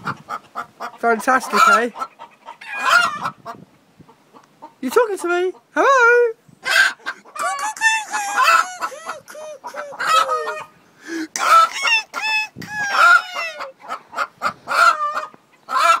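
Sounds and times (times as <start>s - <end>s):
hen clucking and squawking: 0.0s - 5.8s, 6.6s - 16.0s.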